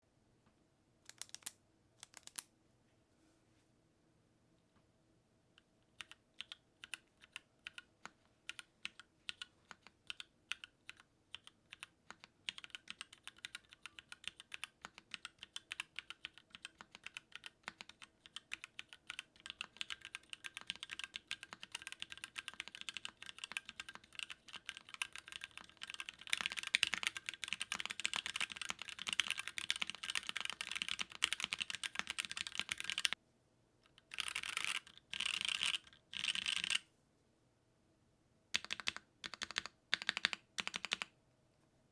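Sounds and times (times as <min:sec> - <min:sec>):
mechanical keyboard typing: 0:01.1 - 0:02.4, 0:06.0 - 0:33.2, 0:34.0 - 0:36.8, 0:38.6 - 0:41.1.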